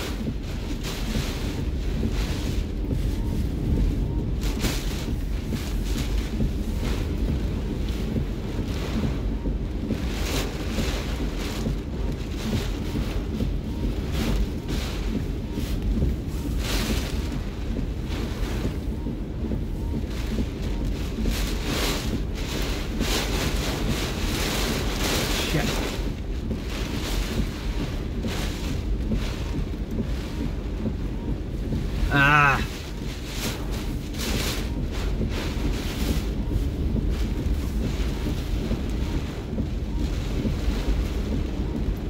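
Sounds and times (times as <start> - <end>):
rain lashing windshield: 0.0 - 42.0
wind buffeting car: 0.0 - 42.0.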